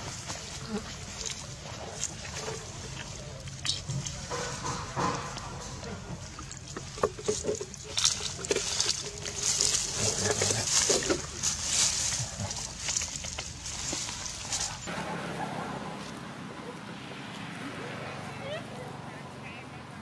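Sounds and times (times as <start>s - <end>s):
dry leaves rustling and crackling: 0.0s - 16.3s.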